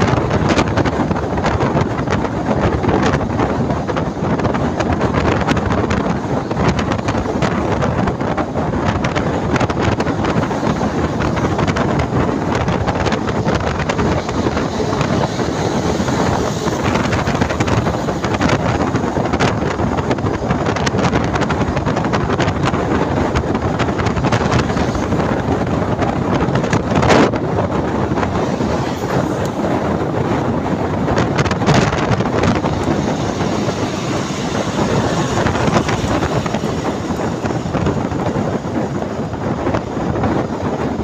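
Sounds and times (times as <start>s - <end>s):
bus and road rumble: 0.0s - 41.0s
wind rushing over microphone: 0.0s - 41.0s.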